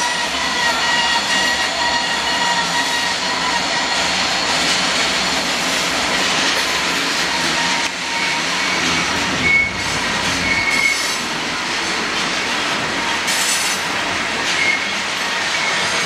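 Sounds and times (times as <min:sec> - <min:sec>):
high wheel squeals: 0:00.0 - 0:05.4, 0:06.8 - 0:11.4, 0:13.0 - 0:16.0
train wheels rumbling on rail: 0:00.0 - 0:16.0.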